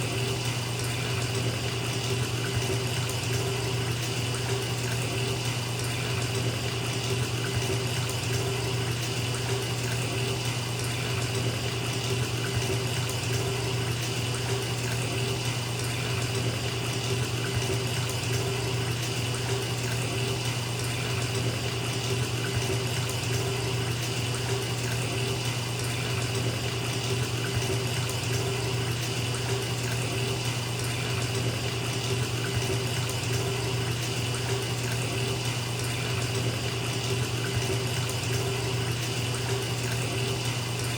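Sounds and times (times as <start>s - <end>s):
water pouring into bathtub: 0.0s - 40.9s.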